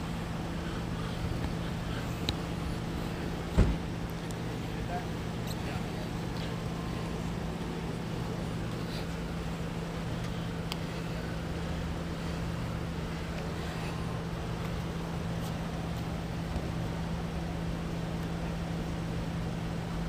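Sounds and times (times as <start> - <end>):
idling vehicle engines hum: 0.0 - 20.0.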